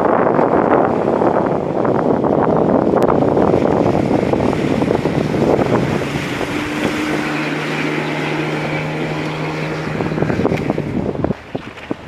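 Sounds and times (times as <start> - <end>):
outboard motor running: 0.0 - 12.0
water rushing: 0.0 - 12.0
wind buffeting microphone: 0.0 - 12.0.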